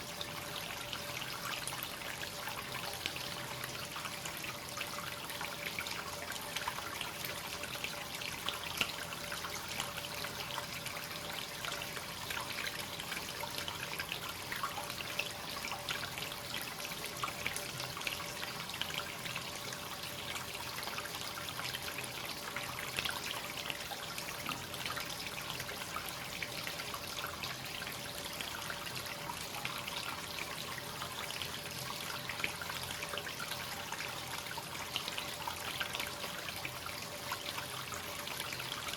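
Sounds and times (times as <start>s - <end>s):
water dripping: 0.0s - 38.9s
water trickling and splashing: 0.0s - 38.9s.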